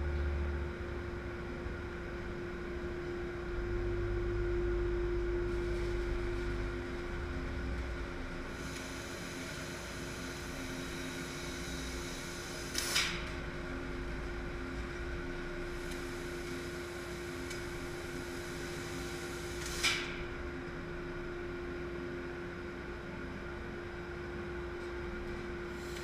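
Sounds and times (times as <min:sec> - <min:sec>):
laser cutter humming: 0:00.0 - 0:26.0.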